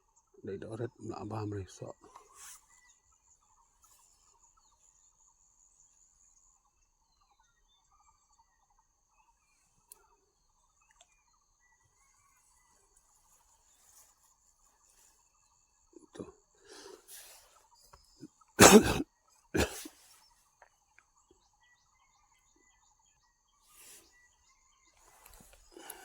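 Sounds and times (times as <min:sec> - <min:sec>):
insects chirring: 0:00.4 - 0:19.0, 0:20.9 - 0:26.0.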